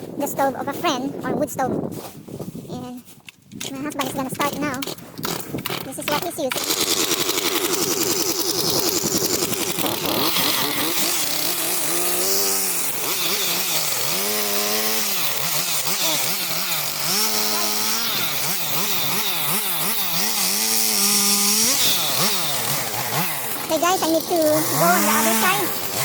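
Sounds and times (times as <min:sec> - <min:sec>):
chainsaw cutting wood: 0:03.9 - 0:26.0.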